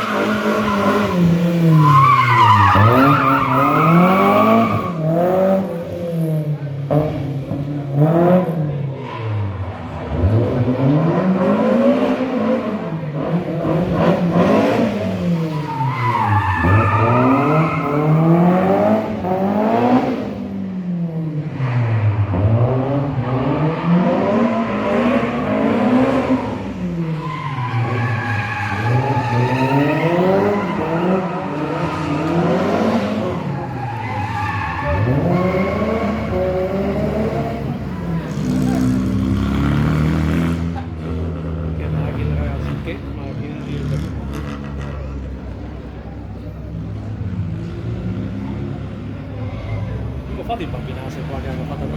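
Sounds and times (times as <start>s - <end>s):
rally car engine revving: 0.0s - 51.9s
tyres skidding: 0.0s - 51.9s.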